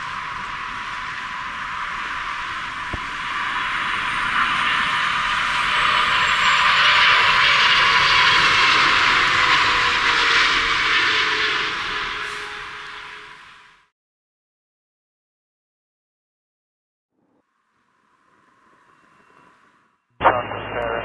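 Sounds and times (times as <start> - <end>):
jet airliner passing: 0.0 - 13.9, 17.9 - 21.0.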